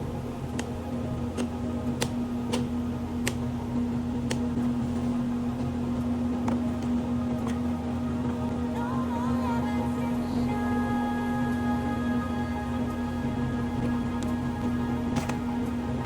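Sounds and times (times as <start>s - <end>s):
electric fan motor humming: 0.0s - 16.0s.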